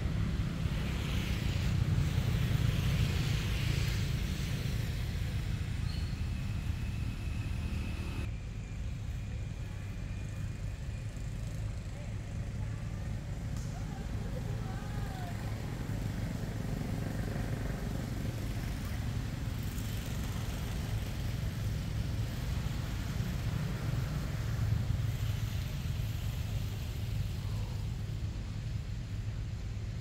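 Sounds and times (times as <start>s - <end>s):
low outdoor rumble: 0.0s - 30.0s.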